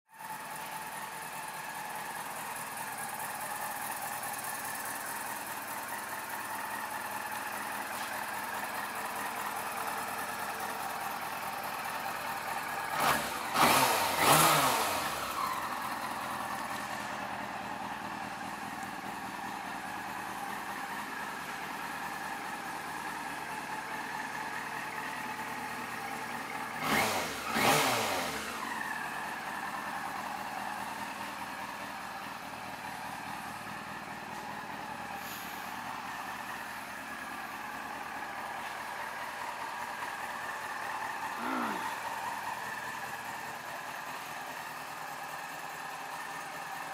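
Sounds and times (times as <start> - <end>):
motorcycle engine idling: 0.1 - 46.9.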